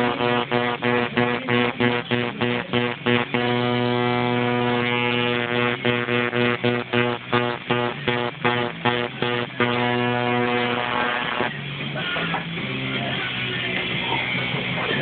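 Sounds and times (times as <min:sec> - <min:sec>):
guitar-led music with steady beat: 0:00.0 - 0:15.0.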